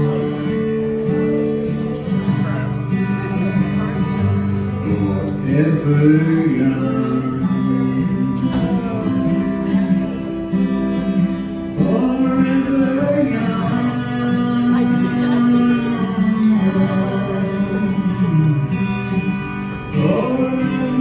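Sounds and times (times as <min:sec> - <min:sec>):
man singing: 0:00.0 - 0:21.0
strummed acoustic guitar: 0:00.0 - 0:21.0.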